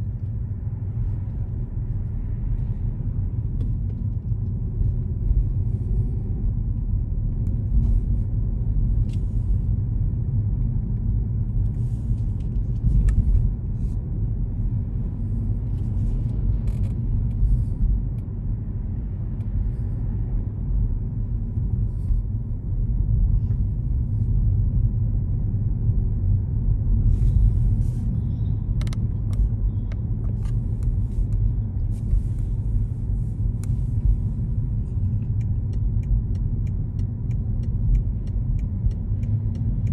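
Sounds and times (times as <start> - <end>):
road and engine noise: 0.0 - 39.9.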